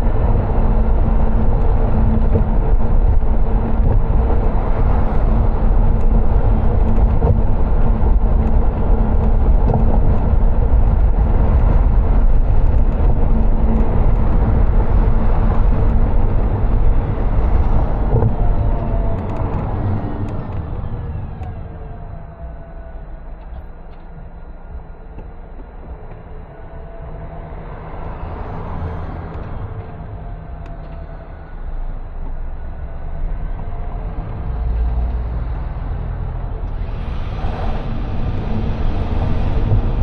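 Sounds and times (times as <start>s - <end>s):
car road and tyre noise: 0.0s - 40.0s
low engine hum: 0.0s - 40.0s.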